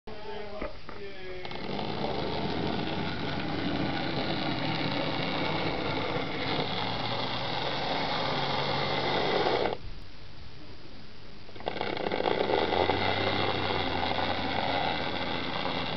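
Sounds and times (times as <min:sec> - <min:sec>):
electric motor whirring: 0:01.2 - 0:09.8, 0:11.5 - 0:15.9.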